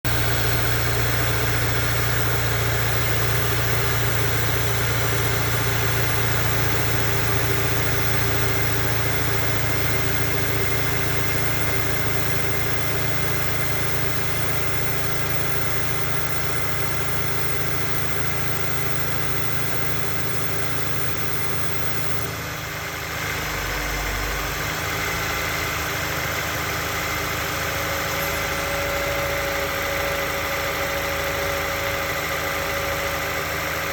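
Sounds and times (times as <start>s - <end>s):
car engine running: 0.0s - 30.5s.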